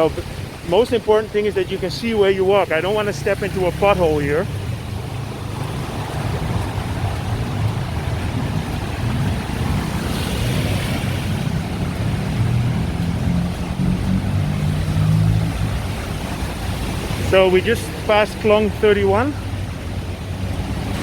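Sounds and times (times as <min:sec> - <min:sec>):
engine hum: 0:00.0 - 0:21.0
tyres sloshing through water: 0:00.0 - 0:21.0
water splashing: 0:00.0 - 0:21.0.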